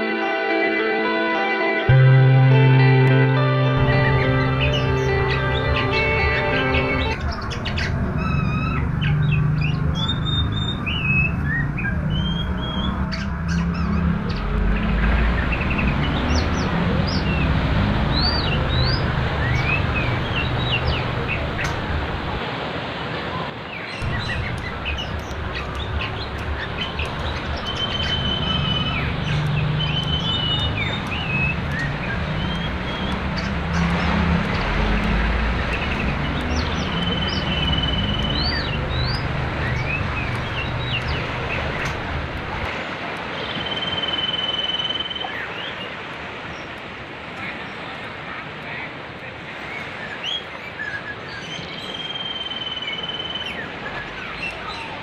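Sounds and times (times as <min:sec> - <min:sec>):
fast-flowing river rushing: 0:00.0 - 0:51.5
songbirds singing: 0:01.9 - 0:22.4, 0:23.6 - 0:48.0, 0:49.5 - 0:55.0.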